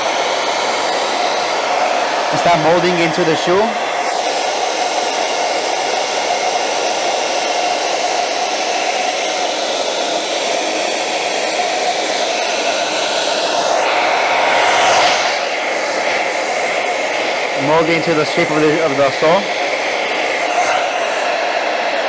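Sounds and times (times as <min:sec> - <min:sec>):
blow dryer running with whine: 0:00.0 - 0:22.0.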